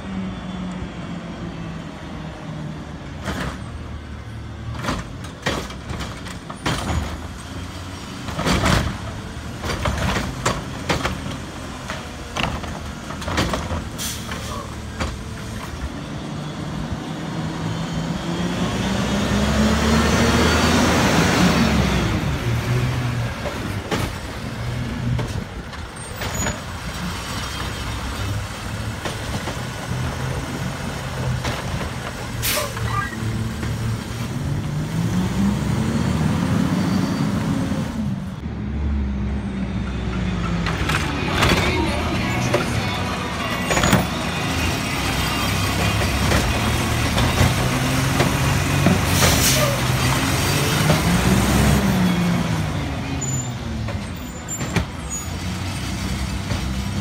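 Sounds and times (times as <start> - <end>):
garbage truck engine: 0.0 - 57.0.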